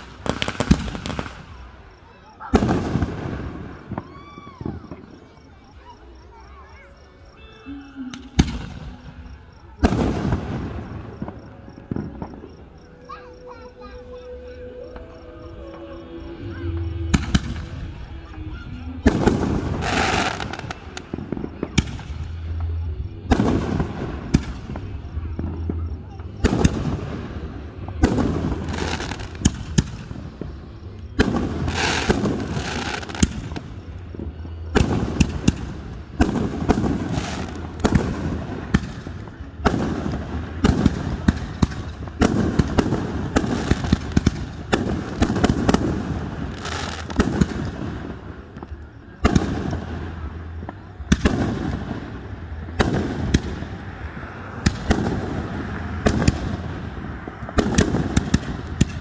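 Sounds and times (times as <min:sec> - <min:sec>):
fireworks bangs and crackles: 0:00.0 - 0:07.4, 0:08.0 - 0:59.0.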